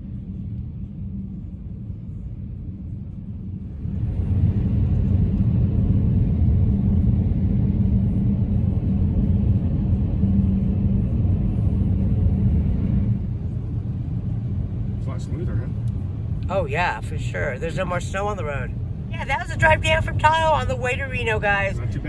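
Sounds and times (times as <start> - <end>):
car road noise in cabin: 0.0 - 22.0.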